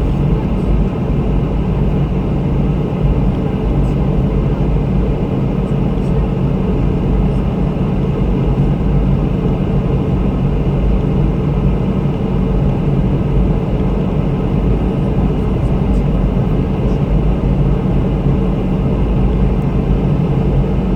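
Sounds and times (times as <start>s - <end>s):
airliner engine drone: 0.0s - 20.9s.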